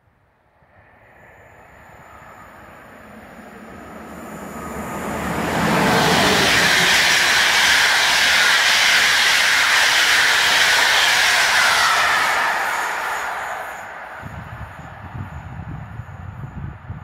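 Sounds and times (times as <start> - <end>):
train wheel and rail noise: 0.0 - 17.0
locomotive rumble: 2.6 - 16.9.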